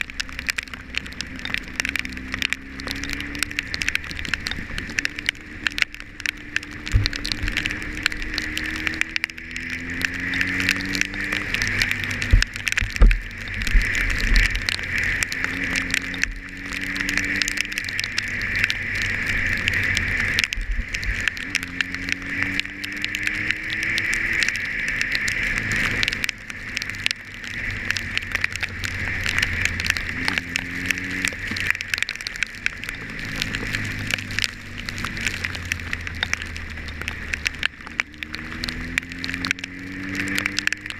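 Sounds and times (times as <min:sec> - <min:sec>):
motorcycle engine accelerating: 0:00.0 - 0:26.9, 0:27.5 - 0:40.9
rain and wind on camera: 0:00.0 - 0:40.9.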